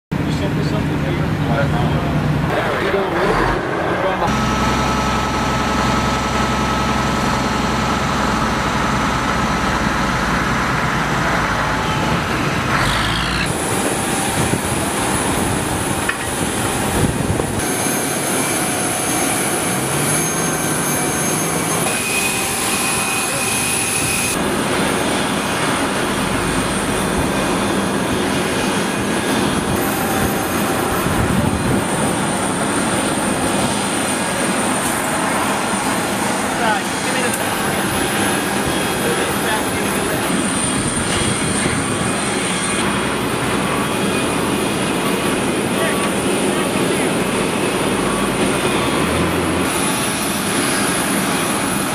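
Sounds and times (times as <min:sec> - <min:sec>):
fire truck engine running: 0:00.2 - 0:51.9
aircraft engines whining: 0:00.4 - 0:51.9.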